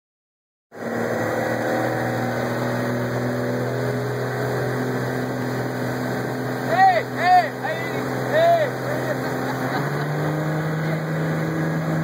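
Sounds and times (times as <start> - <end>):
motorboat engine running: 0.7 - 12.0.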